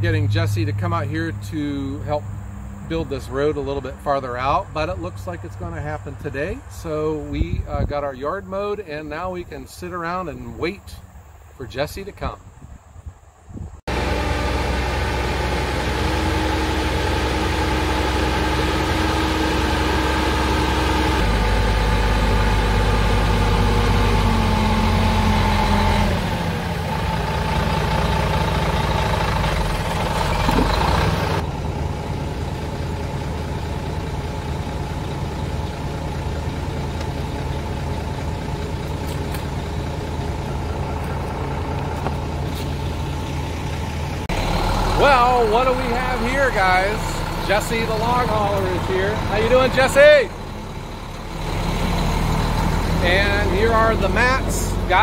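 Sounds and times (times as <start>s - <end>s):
diesel engine running: 0.0s - 11.6s, 13.9s - 55.0s.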